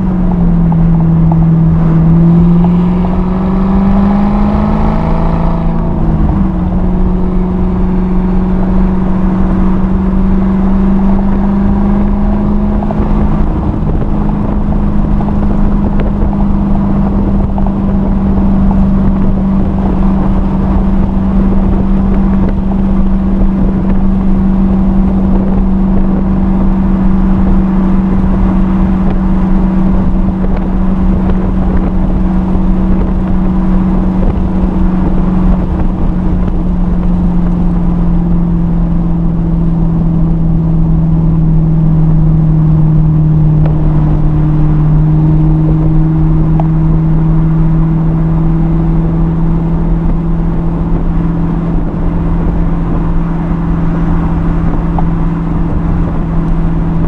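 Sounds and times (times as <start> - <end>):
car engine running: 0.0 - 57.0
road and wind noise: 0.0 - 57.0.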